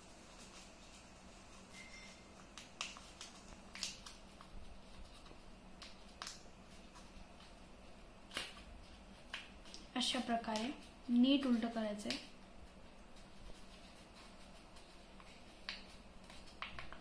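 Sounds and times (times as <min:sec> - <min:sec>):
paper crinkling and crackling: 0:00.2 - 0:17.0.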